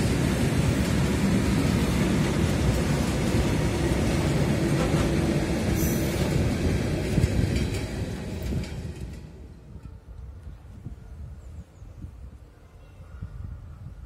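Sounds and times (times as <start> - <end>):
freight train wheels rumbling: 0.0 - 12.4.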